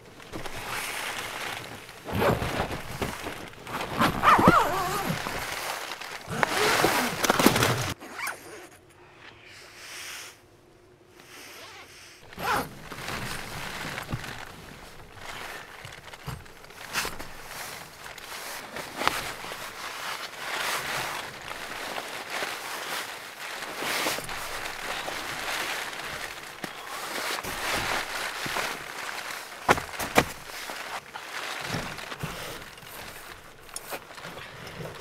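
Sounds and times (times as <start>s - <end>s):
nylon fabric rustling: 0.0s - 8.4s, 11.6s - 35.0s.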